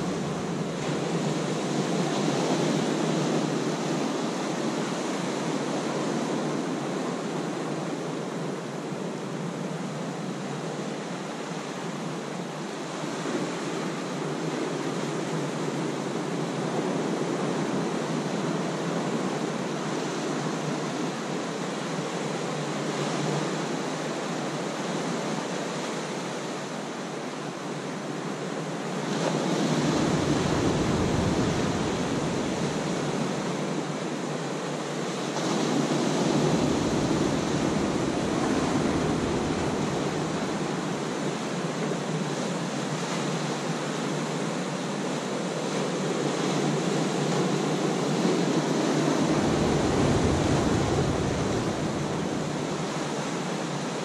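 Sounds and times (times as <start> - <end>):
surf washing over rocks: 0.0 - 54.0.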